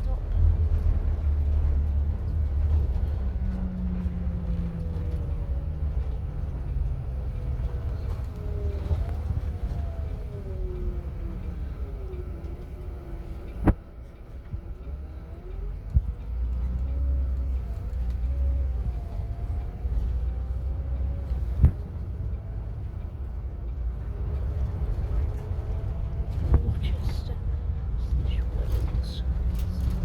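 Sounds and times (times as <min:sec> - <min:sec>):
engine and road rumble: 0:00.0 - 0:30.0
faint whine: 0:00.0 - 0:30.0.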